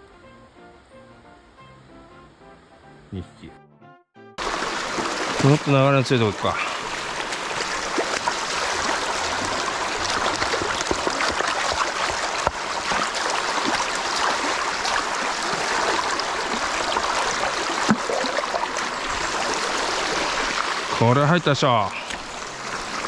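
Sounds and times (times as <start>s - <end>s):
stream rushing over rocks: 4.4s - 23.0s.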